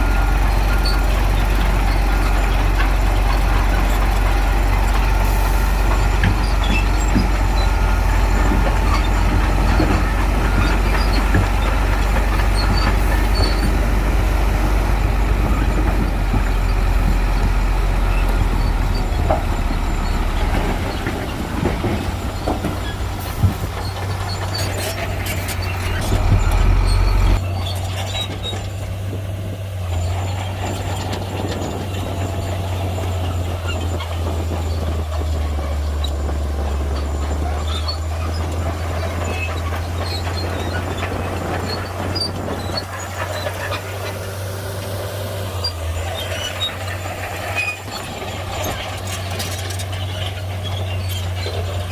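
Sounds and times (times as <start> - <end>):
bulldozer diesel engine rumbling: 0.0 - 51.9.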